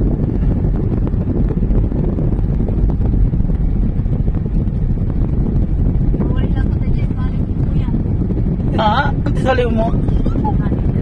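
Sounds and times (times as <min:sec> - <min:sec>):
car driving low rumble: 0:00.0 - 0:11.0
wind buffeting microphone: 0:00.0 - 0:11.0.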